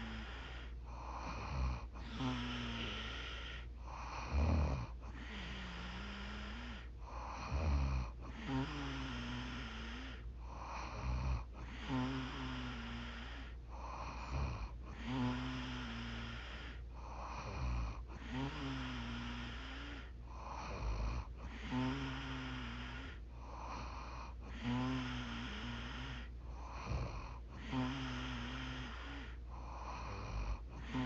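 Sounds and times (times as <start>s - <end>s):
woman snoring: 0.0s - 31.0s.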